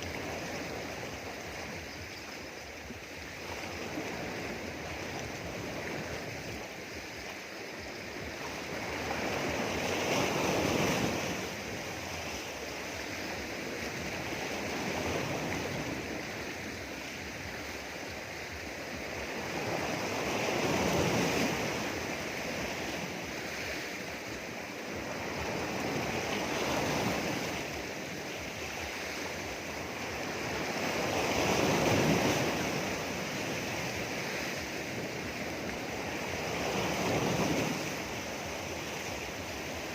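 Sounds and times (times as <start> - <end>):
sea waves breaking on rocks: 0.0 - 39.9.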